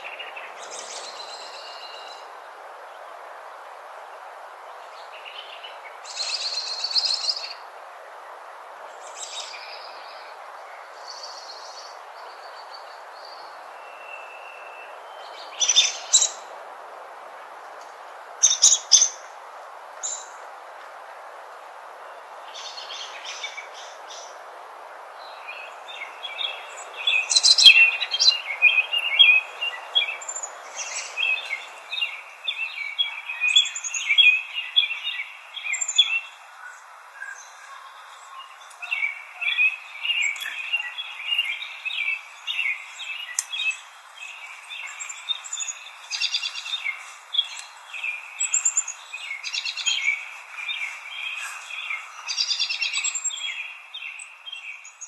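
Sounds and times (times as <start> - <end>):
soft steady hiss: 0.0 - 55.0
songbirds chirping and trilling: 0.0 - 55.0.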